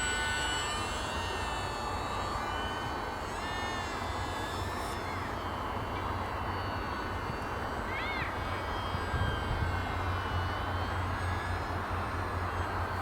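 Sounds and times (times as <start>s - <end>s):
electric motor propeller whine: 0.0s - 13.0s.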